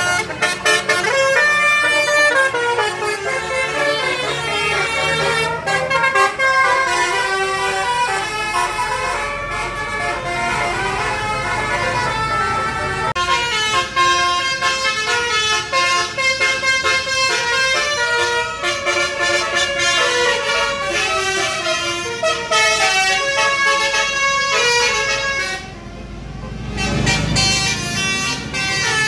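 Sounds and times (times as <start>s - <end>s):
bus engine: 0.0s - 29.0s
multi-tone musical bus horn: 0.0s - 29.0s.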